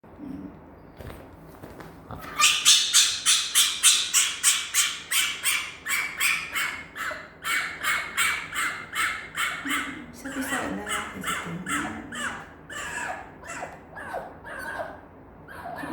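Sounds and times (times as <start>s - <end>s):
fox rasping calls: 2.2s - 15.9s.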